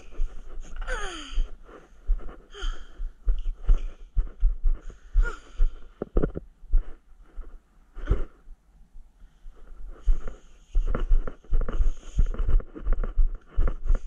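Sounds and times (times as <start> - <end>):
breathing close to microphone: 0.0 - 8.5, 9.2 - 14.0.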